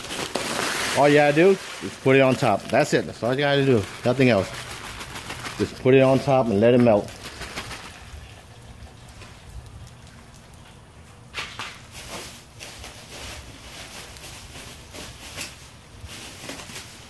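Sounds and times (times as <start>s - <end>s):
ice cubes crackling and popping: 0.0s - 17.0s.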